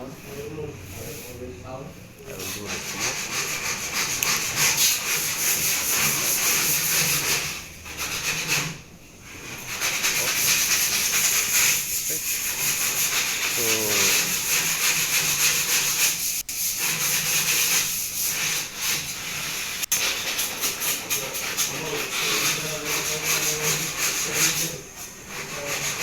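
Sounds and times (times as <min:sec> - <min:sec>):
steady hissing noise: 0:00.0 - 0:26.0.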